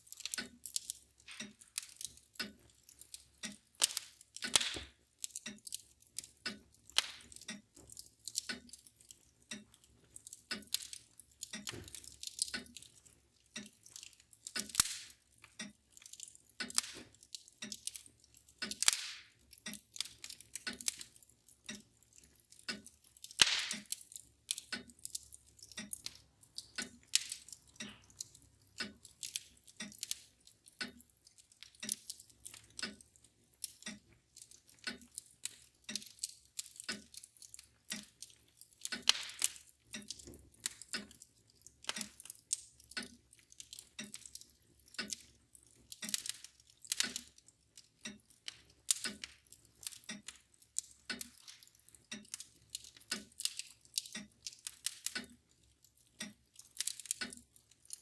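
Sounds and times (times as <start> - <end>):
mantel clock ticking: 0.0 - 58.0
wood fire crackling and popping: 0.0 - 58.0.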